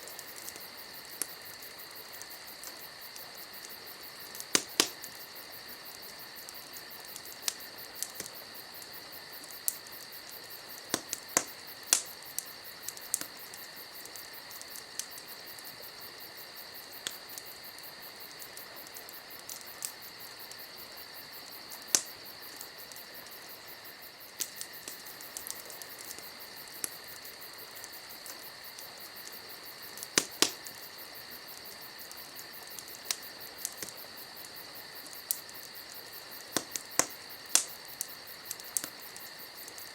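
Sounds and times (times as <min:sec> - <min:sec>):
fire popping and snapping: 0:00.0 - 0:39.9
wood fire crackling: 0:00.0 - 0:39.9.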